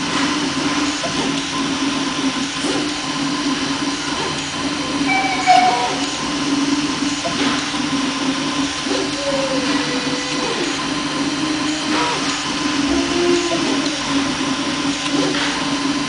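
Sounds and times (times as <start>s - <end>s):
printer machine hum: 0.0s - 16.0s
stepper motor whines: 0.9s - 16.0s.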